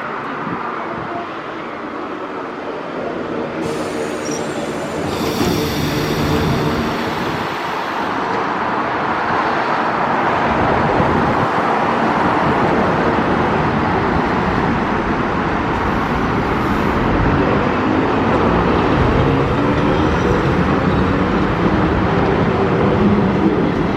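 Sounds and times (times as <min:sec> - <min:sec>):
train wheels rumbling on rails: 0:03.4 - 0:23.9.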